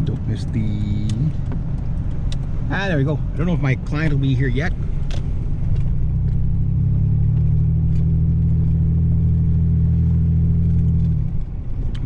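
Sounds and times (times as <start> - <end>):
truck engine drone from cab: 0.0 - 12.0.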